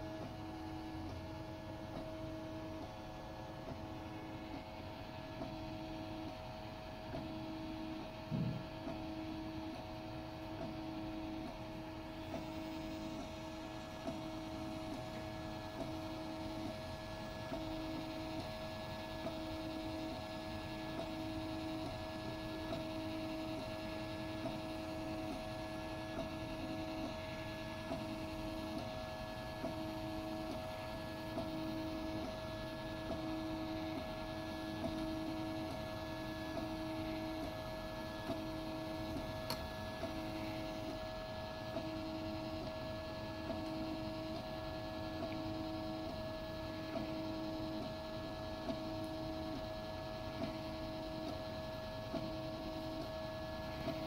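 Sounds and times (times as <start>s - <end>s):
constant printer hum: 0.0s - 54.0s.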